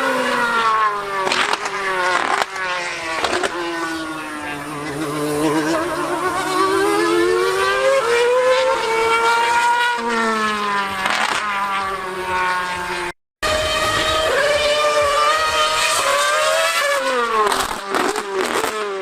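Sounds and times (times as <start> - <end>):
low engine drone: 0.0 - 19.0
race car engine revving: 0.0 - 19.0.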